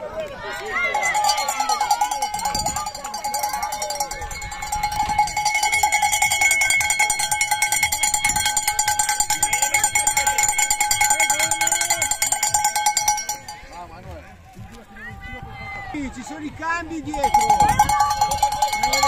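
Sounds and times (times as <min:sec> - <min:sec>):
cowbell shaken rapidly: 0:00.7 - 0:14.1, 0:16.2 - 0:19.0.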